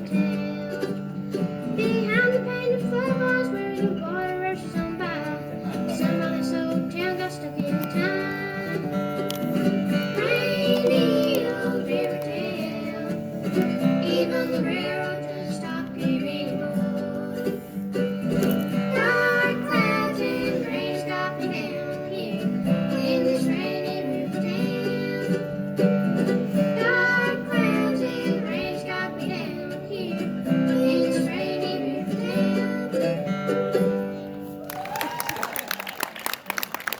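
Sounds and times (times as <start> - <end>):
person singing: 0.0 - 34.4
bluegrass string band: 0.0 - 34.8.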